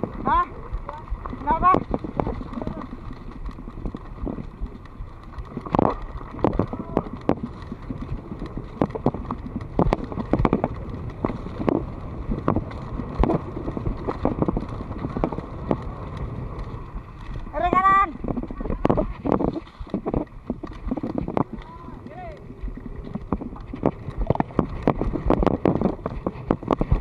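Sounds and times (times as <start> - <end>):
bike knocking and rattling: 0.0 - 27.0
bike tyres rumbling on dirt: 0.0 - 27.0.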